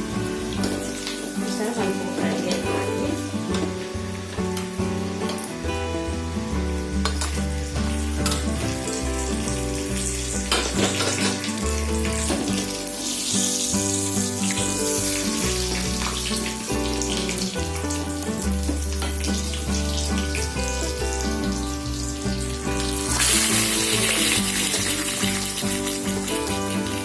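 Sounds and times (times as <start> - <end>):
background music: 0.0 - 27.0
spices sizzling in hot oil: 0.0 - 27.0.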